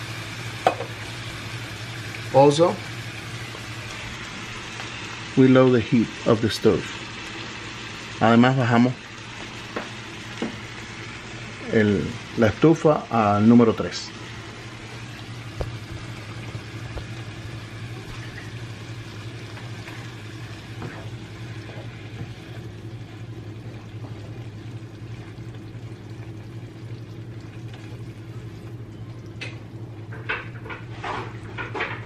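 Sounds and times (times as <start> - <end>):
low steady hum: 0.0 - 32.0
sauce simmering in a frying pan: 0.0 - 32.0.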